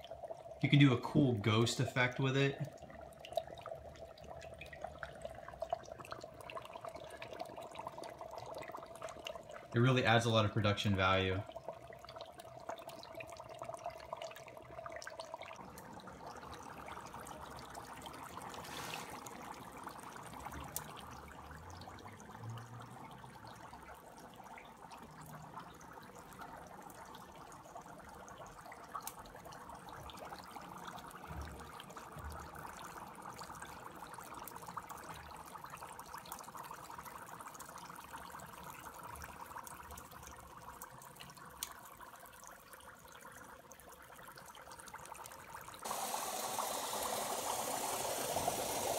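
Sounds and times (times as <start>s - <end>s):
dry ice bubbling in water: 0.0s - 48.9s.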